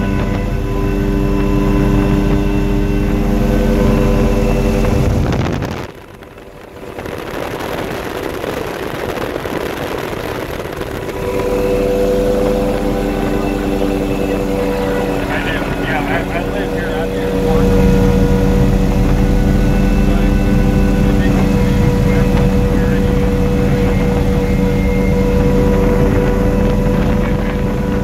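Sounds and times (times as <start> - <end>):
helicopter turbine and rotor hum: 0.0 - 28.0
rushing noise: 0.0 - 28.0.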